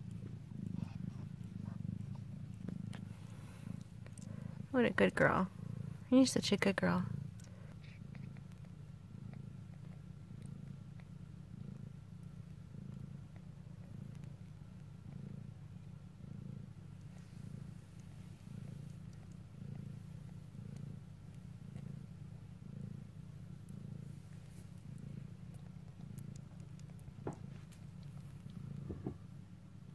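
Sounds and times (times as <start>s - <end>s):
cat purring: 0.0s - 29.9s.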